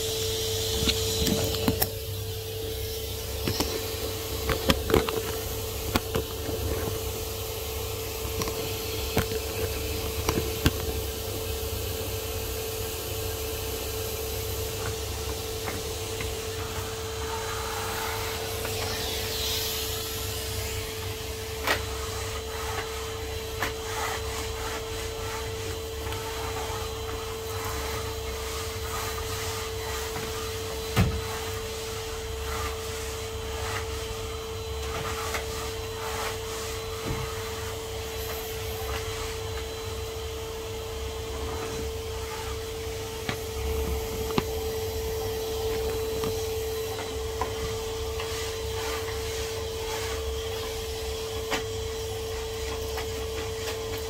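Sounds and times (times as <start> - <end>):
vacuum cleaner motor hum: 0.0 - 54.0.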